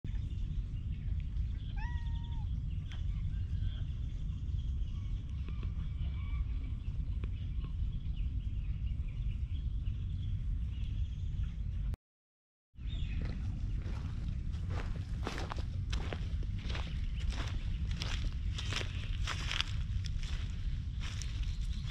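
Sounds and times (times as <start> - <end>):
birds singing: 0.1 - 12.0, 12.8 - 21.9
steady low rumble: 0.1 - 12.0, 12.8 - 21.9.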